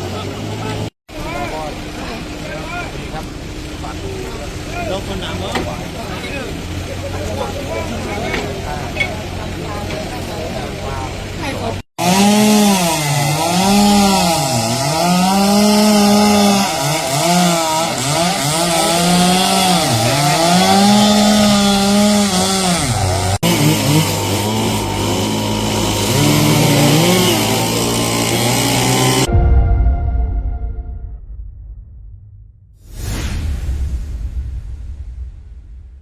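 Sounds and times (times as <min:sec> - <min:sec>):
chainsaw cutting: 0:00.0 - 0:29.3
chainsaw running steadily: 0:00.0 - 0:29.3.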